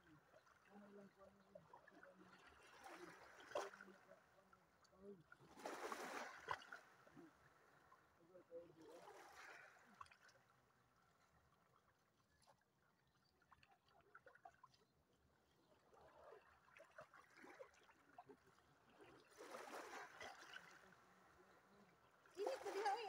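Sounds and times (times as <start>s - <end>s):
small waves lapping on rocks: 0.0s - 12.8s, 13.4s - 23.0s
seawater splashing and trickling: 0.0s - 23.0s.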